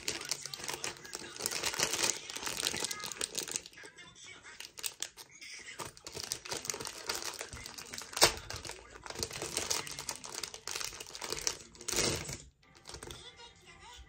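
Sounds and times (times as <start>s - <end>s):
sharp plastic crackle: 0.0s - 3.9s, 4.5s - 13.2s
plastic bag crinkling: 0.0s - 13.3s.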